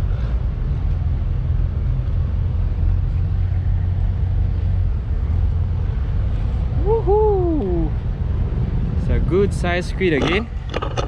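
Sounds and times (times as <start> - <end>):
wind buffeting microphone: 0.6 - 11.0.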